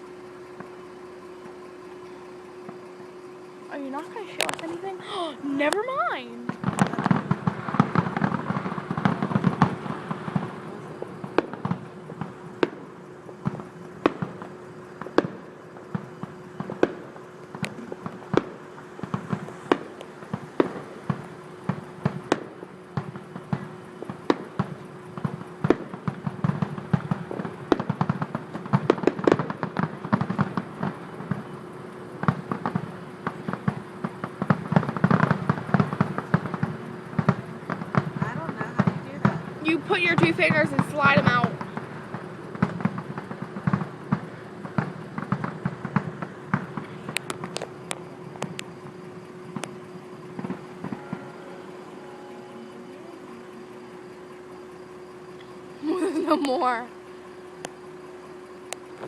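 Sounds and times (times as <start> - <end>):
fireworks bangs and pops: 0.0 - 59.0
steady hum: 0.0 - 59.0.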